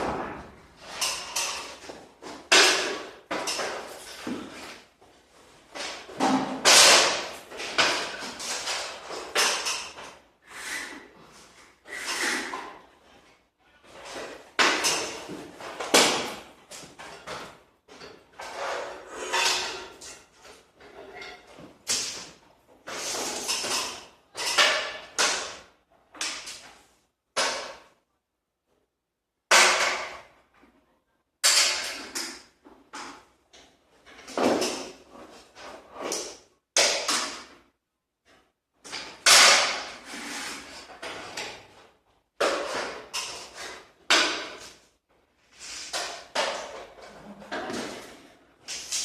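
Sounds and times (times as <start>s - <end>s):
knocks bangs and scrapes: 0.0s - 10.2s, 10.8s - 28.0s, 31.4s - 37.6s, 38.8s - 41.8s, 42.4s - 49.0s.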